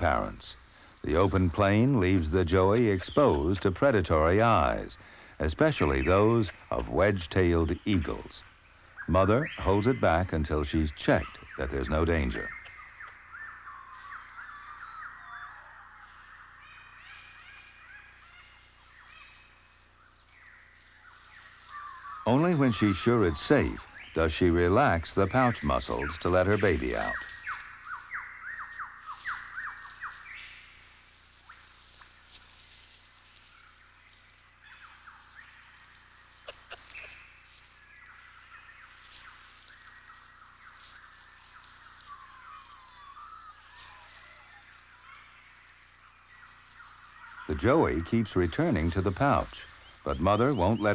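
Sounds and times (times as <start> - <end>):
wild birds chirping and whistling: 0.0 - 50.9.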